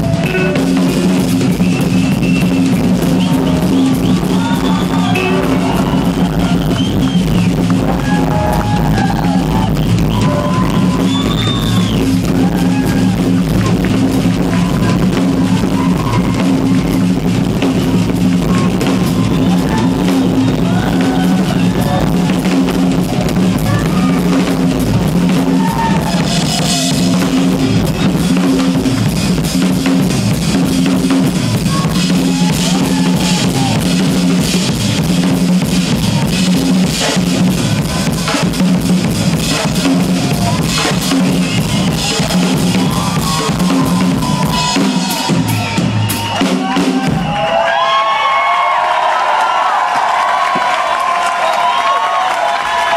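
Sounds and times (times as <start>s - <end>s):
drum kit solo: 0.0s - 48.8s.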